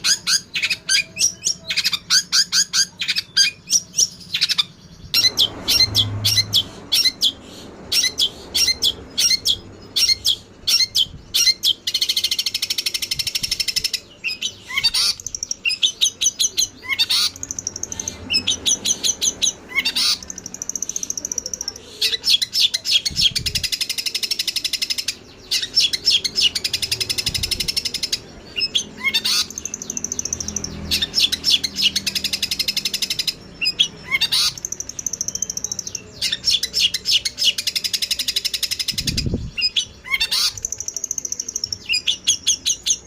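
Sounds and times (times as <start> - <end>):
buzzy bird chatter: 0.0 - 43.0
sparrows chirping: 0.0 - 43.0.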